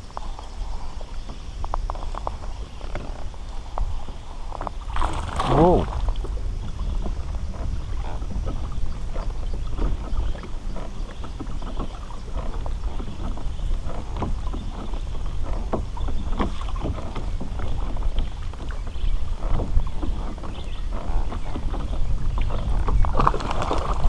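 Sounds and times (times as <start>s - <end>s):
water splashes against a hull: 0.0s - 24.0s
wind buffeting microphone: 0.0s - 24.0s.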